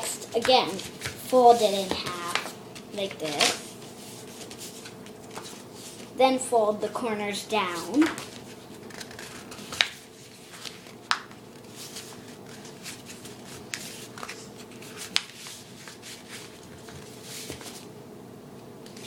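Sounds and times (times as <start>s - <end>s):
paper rustling and crackling: 0.4s - 6.2s, 7.9s - 17.9s.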